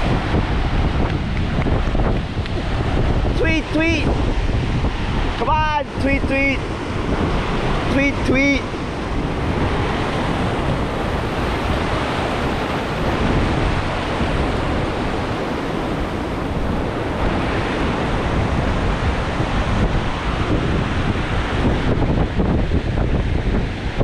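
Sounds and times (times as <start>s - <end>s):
surf breaking over rocks: 0.0s - 24.0s
wind buffeting microphone: 0.0s - 24.0s.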